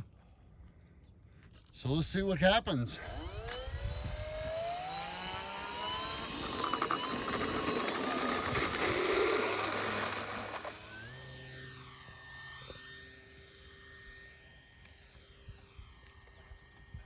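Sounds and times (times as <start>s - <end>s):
electric motor and propeller whine: 2.7s - 17.0s.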